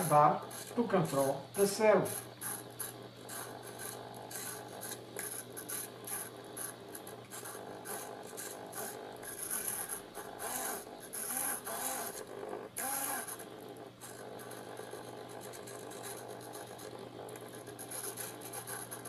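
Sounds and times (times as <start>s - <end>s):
servo whirring and rasping: 0.0s - 19.0s.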